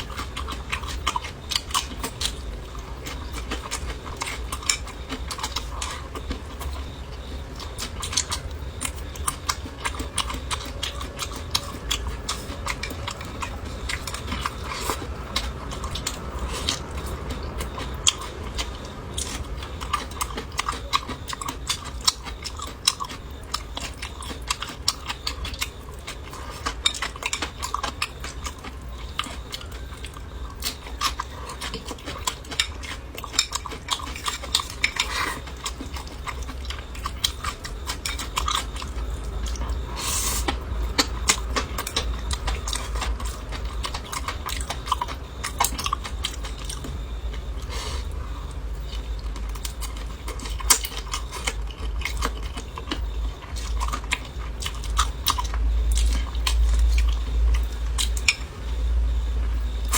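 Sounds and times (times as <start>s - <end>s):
chewing and biting: 0.0s - 59.9s.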